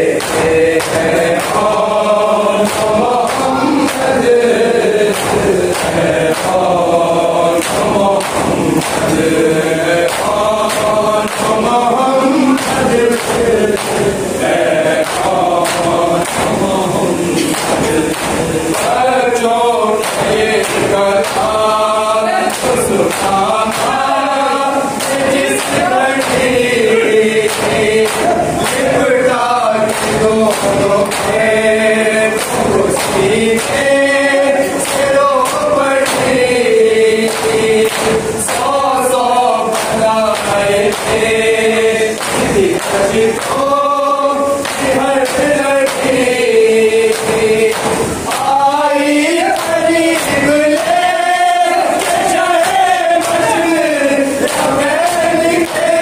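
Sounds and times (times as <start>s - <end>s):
hands slapping on chests: 0.0s - 41.4s, 42.1s - 43.8s, 44.6s - 48.7s, 49.3s - 56.0s
men chanting in unison: 0.0s - 56.0s.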